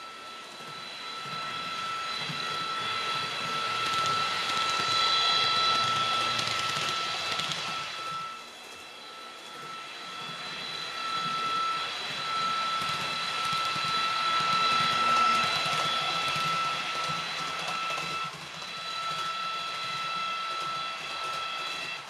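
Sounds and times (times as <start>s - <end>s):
model train electric whine: 0.0s - 22.0s
model train rolling on track: 0.0s - 22.0s.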